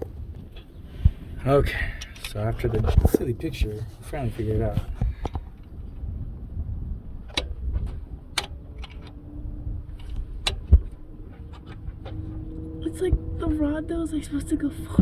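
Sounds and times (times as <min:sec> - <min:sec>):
low rough rumble: 0:00.0 - 0:15.0.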